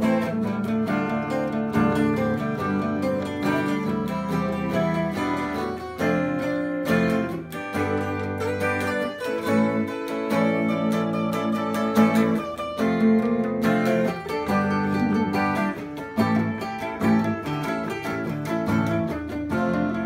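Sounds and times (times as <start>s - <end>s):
guitars strumming and picking: 0.0s - 20.0s.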